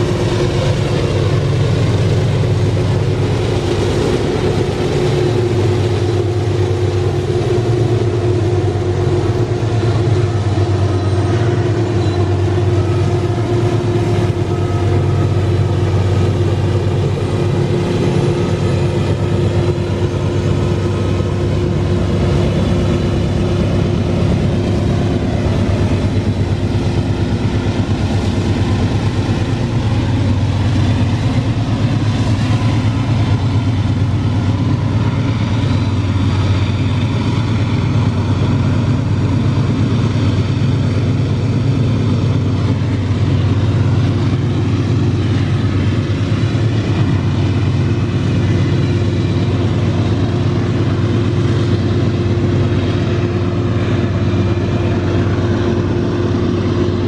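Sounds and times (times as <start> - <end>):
freight wagons rumbling on rails: 0.0 - 57.0
higher steady hum: 0.0 - 57.0
locomotive engine drone: 0.0 - 57.0.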